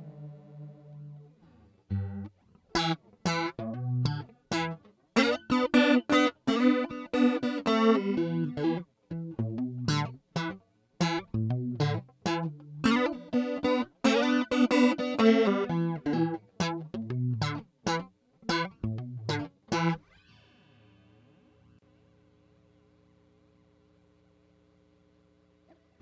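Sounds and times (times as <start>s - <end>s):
electric guitar with flanger: 0.0s - 21.4s
faint amp hum: 0.0s - 26.0s.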